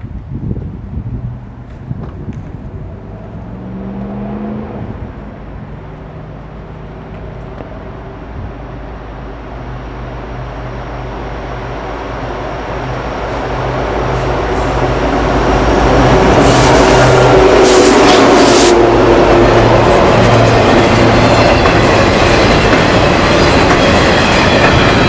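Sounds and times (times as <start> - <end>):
diesel locomotive engine hum: 0.0 - 25.0.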